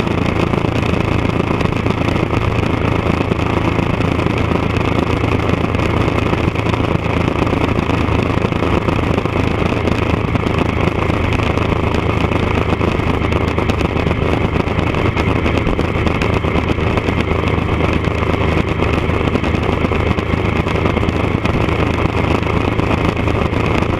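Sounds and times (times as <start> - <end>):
motorcycle engine running steadily: 0.0 - 23.9.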